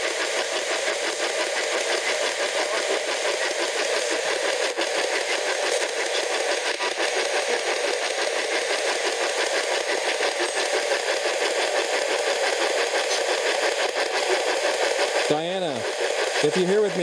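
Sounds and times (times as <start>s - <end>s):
radio static hiss stuttering: 0.0s - 17.0s.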